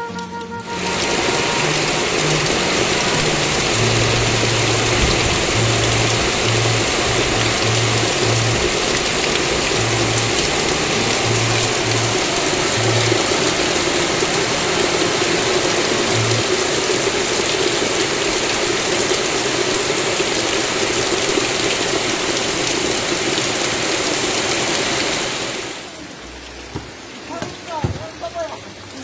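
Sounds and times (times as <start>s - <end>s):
heavy rain pouring: 0.1s - 29.0s.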